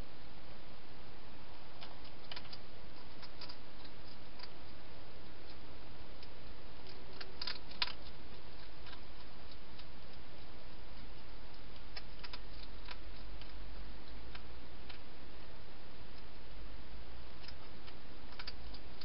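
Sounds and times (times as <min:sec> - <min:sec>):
steady hiss: 0:00.0 - 0:19.0
hedgehog chewing and crunching: 0:01.7 - 0:15.2, 0:17.2 - 0:19.0.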